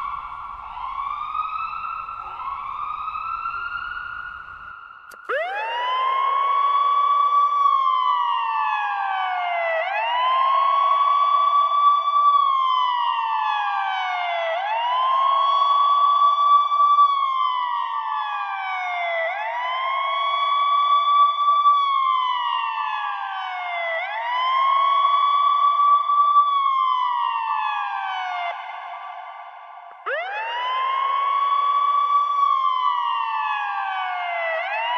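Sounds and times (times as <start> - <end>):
fire truck siren wailing: 0.0 - 34.9.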